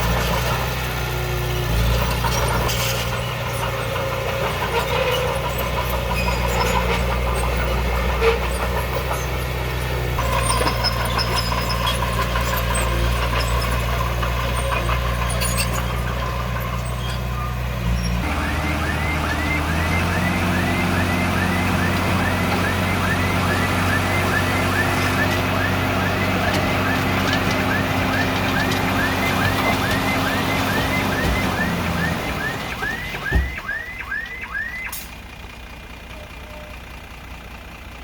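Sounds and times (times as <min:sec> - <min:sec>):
heavy diesel machinery running: 0:00.0 - 0:38.0.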